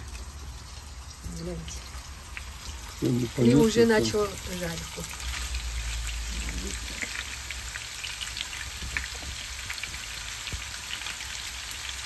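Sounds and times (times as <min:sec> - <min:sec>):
ribs sizzling in hot oil: 0:00.0 - 0:12.0.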